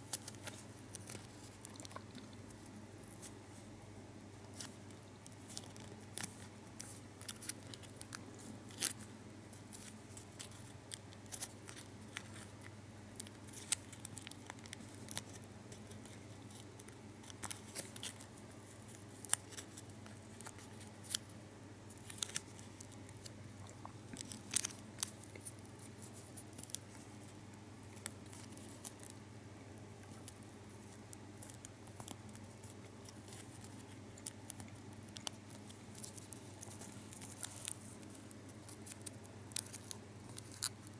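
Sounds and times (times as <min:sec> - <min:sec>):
steady low hum: 0:00.0 - 0:40.9
foil gum wrapper crinkling: 0:04.5 - 0:21.3, 0:21.9 - 0:29.2, 0:30.0 - 0:40.9.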